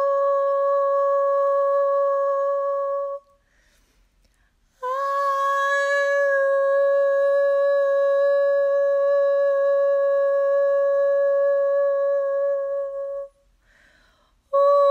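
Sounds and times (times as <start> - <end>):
woman humming a long note: 0.0 - 3.4, 4.8 - 13.4, 14.5 - 14.9.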